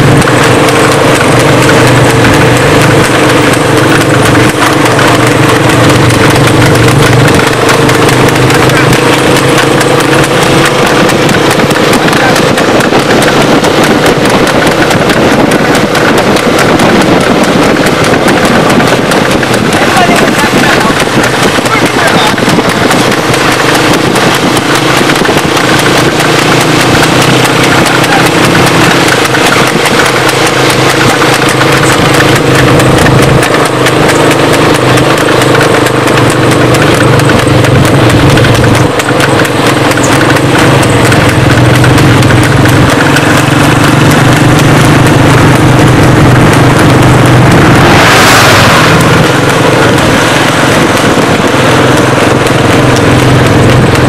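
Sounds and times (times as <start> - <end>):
horse hooves clip-clopping: 0.0 - 54.0
motor vehicle engines running: 0.0 - 54.0
rushing noise: 0.0 - 54.0.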